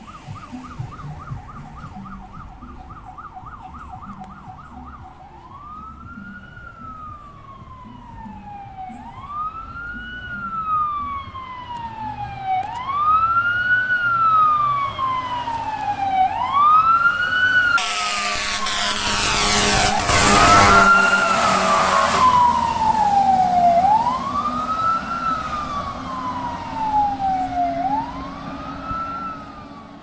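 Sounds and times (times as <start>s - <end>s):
fire truck siren wailing: 0.0s - 30.0s
truck noise: 0.0s - 30.0s.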